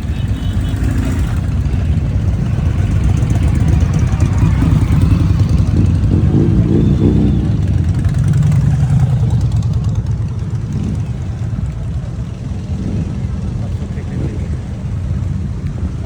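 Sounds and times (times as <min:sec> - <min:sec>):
motorcycle engine rumble: 0:00.0 - 0:16.0.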